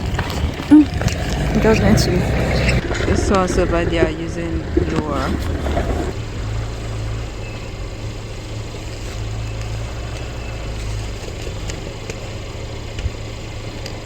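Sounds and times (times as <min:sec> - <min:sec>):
snow blower engine running: 0:00.0 - 0:14.0.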